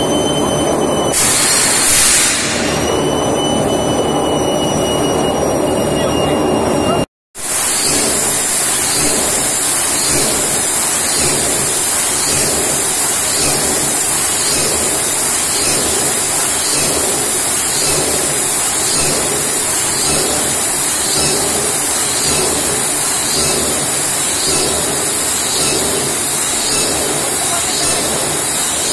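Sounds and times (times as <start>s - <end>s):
press machine hissing drone: 0.0s - 6.8s, 7.4s - 28.9s.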